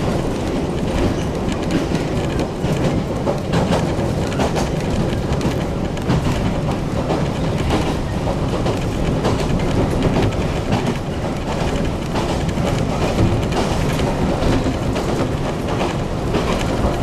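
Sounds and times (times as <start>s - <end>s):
train wheels rumbling on rails: 0.0s - 17.0s
wheels clacking over track: 0.0s - 17.0s.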